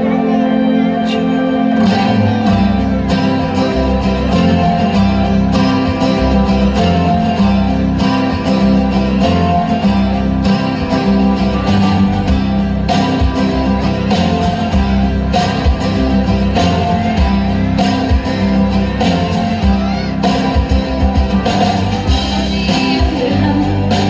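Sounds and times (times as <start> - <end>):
bass: 0.0 - 24.0
guitar music with steady beat: 0.0 - 24.0.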